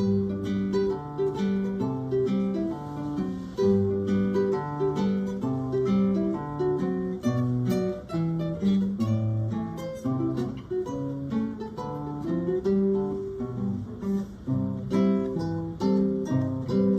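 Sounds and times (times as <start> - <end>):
acoustic guitars playing: 0.0 - 16.9.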